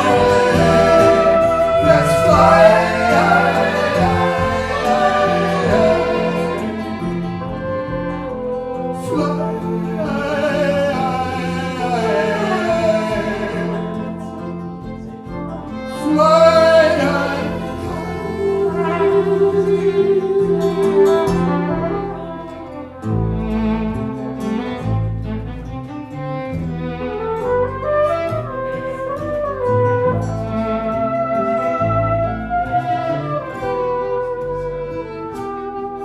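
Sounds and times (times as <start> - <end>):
flugelhorn: 0.0 - 14.8, 16.1 - 25.7, 27.0 - 36.0
acoustic guitar: 0.0 - 36.0
bowed violin: 0.0 - 36.0
double bass: 0.0 - 36.0.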